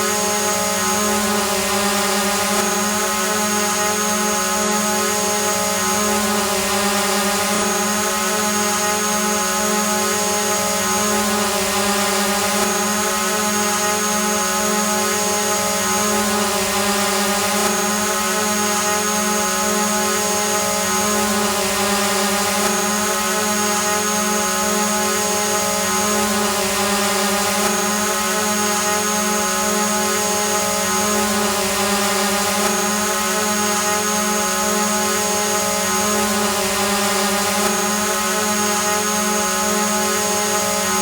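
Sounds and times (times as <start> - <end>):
drone buzzing whine: 0.0 - 41.0.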